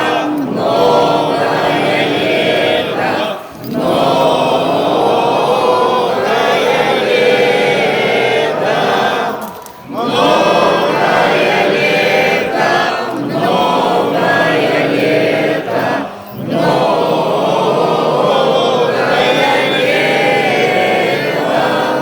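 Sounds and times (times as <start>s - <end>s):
group chanting unaccompanied: 0.0s - 22.0s.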